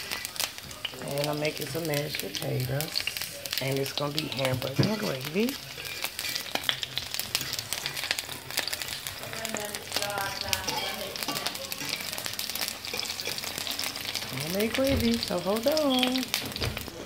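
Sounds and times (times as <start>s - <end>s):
onion rings frying in grease: 0.0s - 17.0s.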